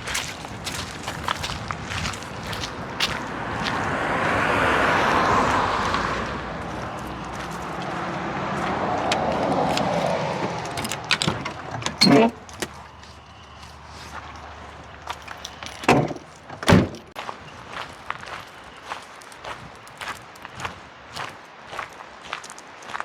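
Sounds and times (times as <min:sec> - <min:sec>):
road vehicles passing: 0:00.0 - 0:23.0.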